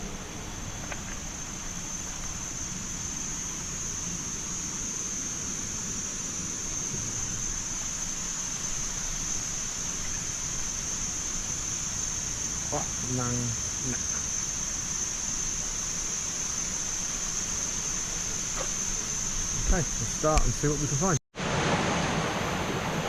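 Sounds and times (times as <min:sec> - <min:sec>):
high-pitched insect chorus: 0:00.0 - 0:21.2.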